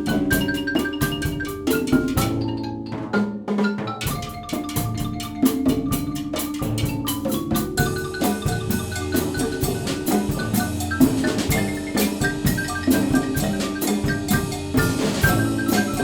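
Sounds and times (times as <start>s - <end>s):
clave and wood block: 0.0s - 16.0s
drums: 0.0s - 16.0s
xylophone melody: 0.0s - 16.0s.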